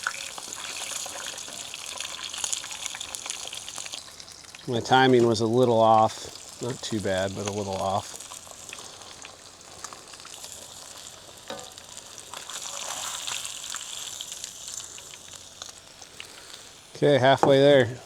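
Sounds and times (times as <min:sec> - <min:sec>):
fish deep-frying in hot grease: 0:00.0 - 0:18.0.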